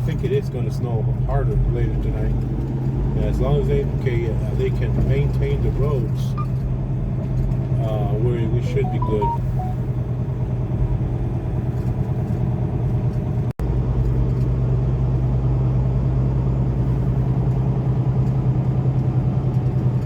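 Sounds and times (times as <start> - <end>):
diesel truck engine drone: 0.0 - 20.0.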